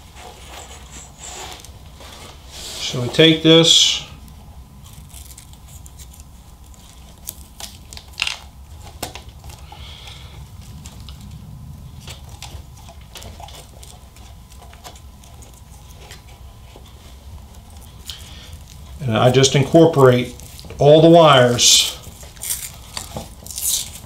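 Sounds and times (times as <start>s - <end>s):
low steady hum: 0.0s - 24.0s
wires and plastic connectors rustling: 0.0s - 24.0s.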